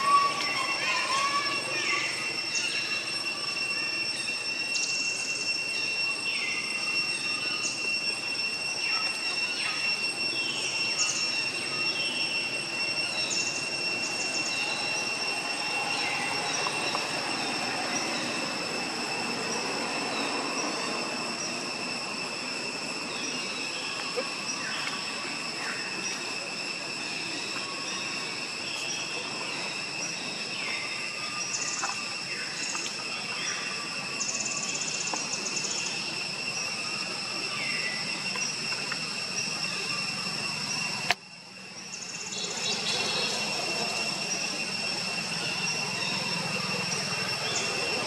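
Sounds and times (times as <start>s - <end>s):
cicadas droning: 0.0s - 48.0s.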